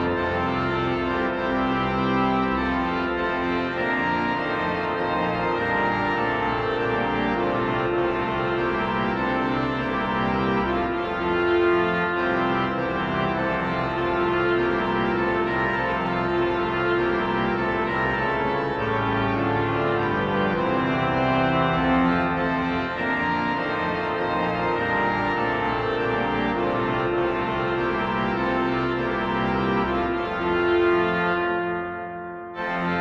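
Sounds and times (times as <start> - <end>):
church organ chords: 0.0 - 33.0
low organ pedal bass notes: 0.0 - 33.0.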